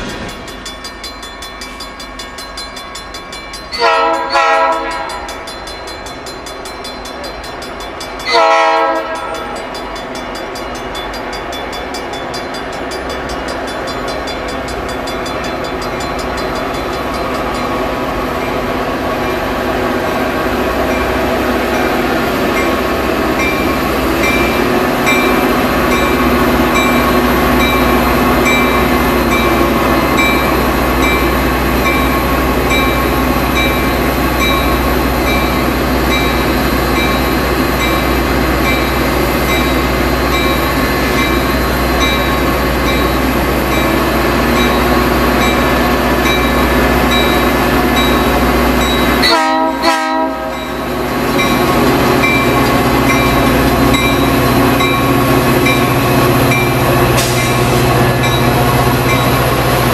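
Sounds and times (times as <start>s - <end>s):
crossing bells dinging: 0.0s - 19.6s, 20.8s - 59.9s
diesel locomotive engine running: 0.0s - 59.9s
train cars rolling: 0.0s - 59.9s.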